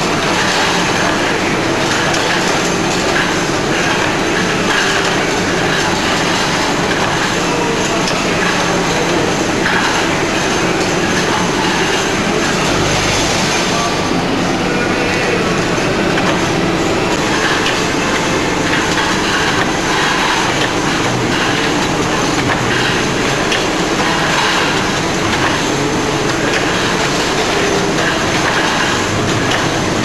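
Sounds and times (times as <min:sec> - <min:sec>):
machinery running: 0:00.0 - 0:30.0
metal parts rattling on conveyor: 0:00.0 - 0:30.0.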